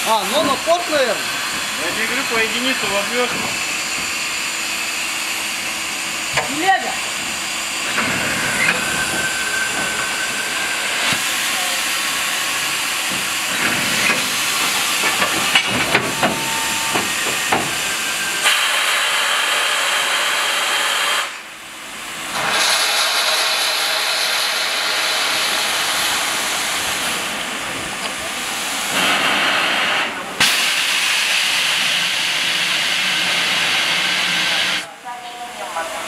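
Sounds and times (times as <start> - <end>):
steam blowing out at cylinders: 0.0 - 34.9
steam locomotive hissing: 0.0 - 36.0.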